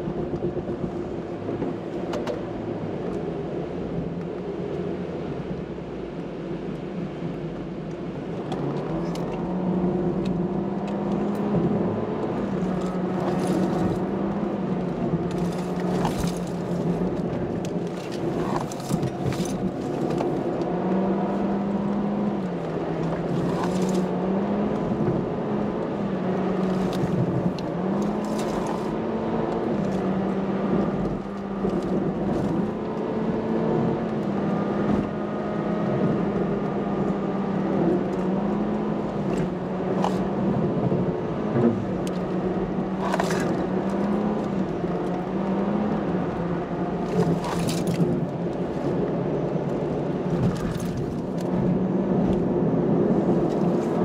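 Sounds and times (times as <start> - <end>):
car engine while driving: 0.0 - 54.0.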